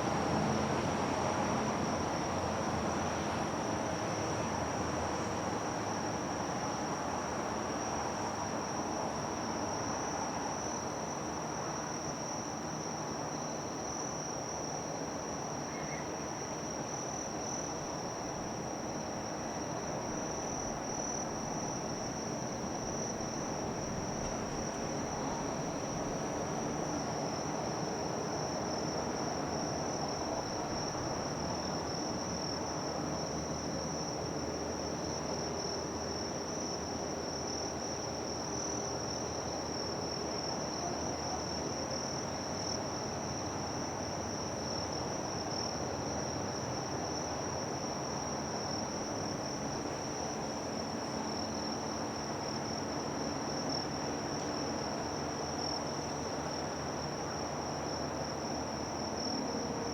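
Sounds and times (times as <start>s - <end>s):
insects trilling: 9.8s - 59.9s.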